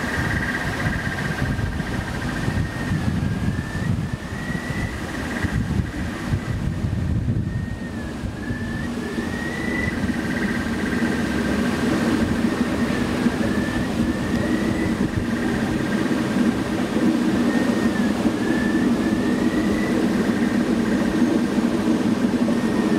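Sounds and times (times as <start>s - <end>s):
steady low electronic drone: 0.0s - 22.9s.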